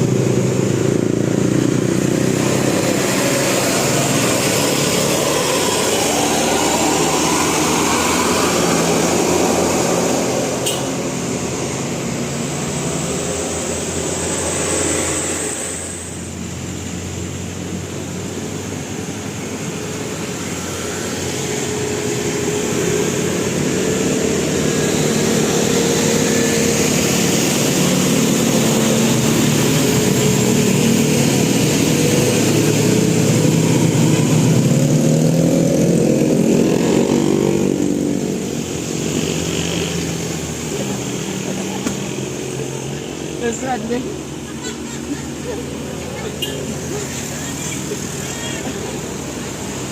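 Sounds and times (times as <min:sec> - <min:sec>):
road vehicles passing: 0:00.0 - 0:49.9.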